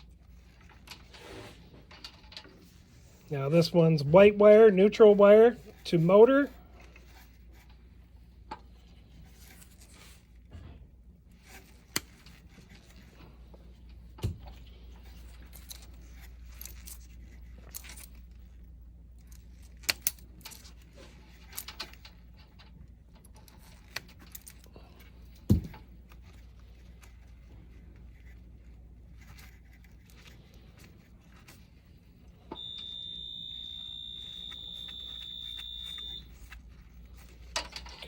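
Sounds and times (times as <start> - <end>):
low steady hum: 0.0 - 38.0
wires being handled and twisted: 0.0 - 38.0.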